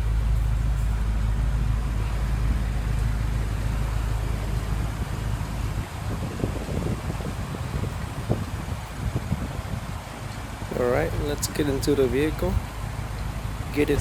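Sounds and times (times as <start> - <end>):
vehicle engine humming: 0.0 - 14.0
wind rumble on microphone: 0.0 - 14.0.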